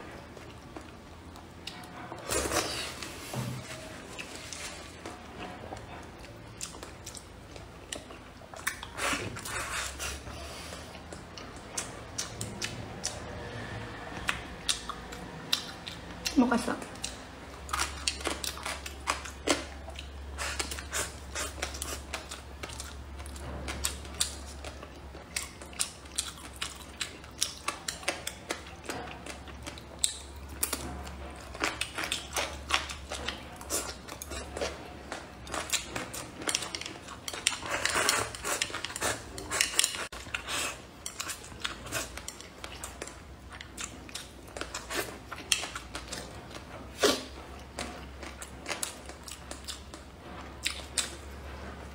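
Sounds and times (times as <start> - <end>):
biting and chewing: 0.0 - 51.9.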